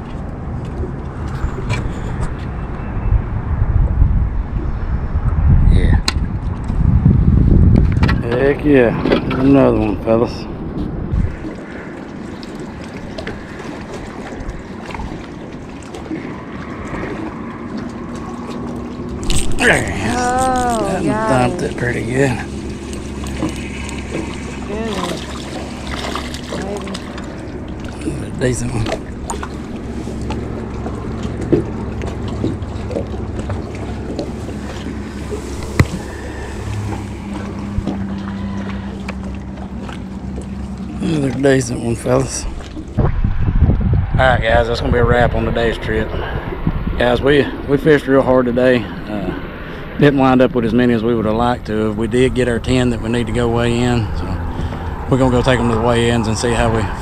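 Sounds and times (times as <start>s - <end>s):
waves lapping against boat: 0.0s - 3.1s, 6.1s - 43.6s, 44.8s - 57.0s
wind on microphone: 0.0s - 41.1s, 42.0s - 47.8s.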